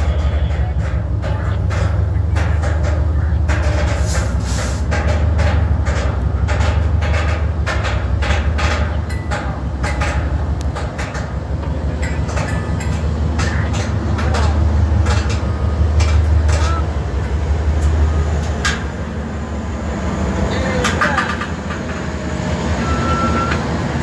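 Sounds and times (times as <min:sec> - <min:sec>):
freight cars clanking and rattling: 0:00.0 - 0:24.0
train wheels rumbling on rails: 0:00.0 - 0:24.0.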